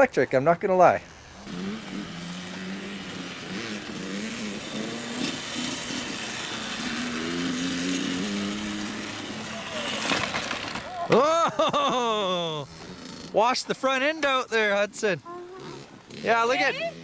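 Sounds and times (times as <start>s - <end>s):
dirt bike engine revving: 0.6s - 17.0s.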